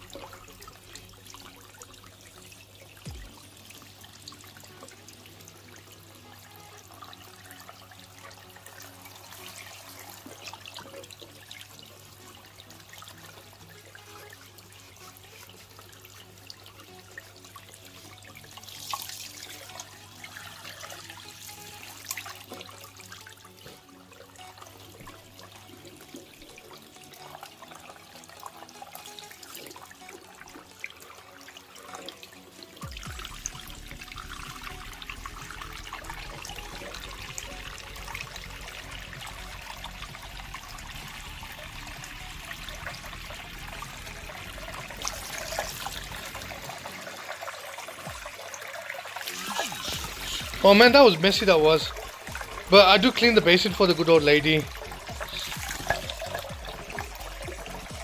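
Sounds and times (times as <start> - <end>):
tap water running into basin: 0.0 - 58.0.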